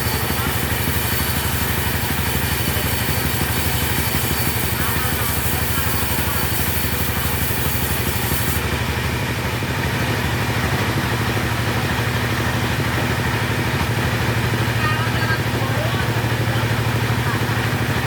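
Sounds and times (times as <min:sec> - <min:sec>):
chainsaw engine running: 0:00.0 - 0:18.0.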